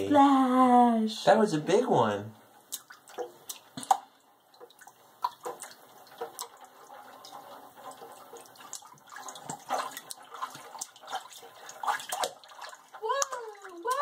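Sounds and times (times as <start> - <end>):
baby splashing water: 2.6 - 14.0.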